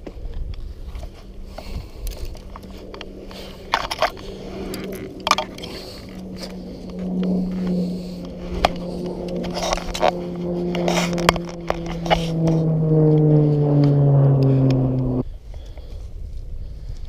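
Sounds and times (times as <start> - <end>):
footsteps crunching dry branches: 0.0 - 14.0
steady low hum: 0.0 - 17.0.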